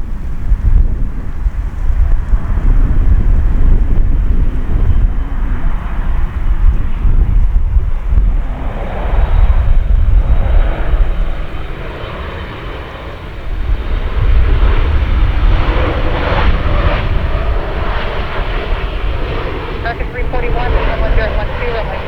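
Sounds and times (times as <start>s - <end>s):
jet engines roaring at takeoff: 0.0s - 22.0s.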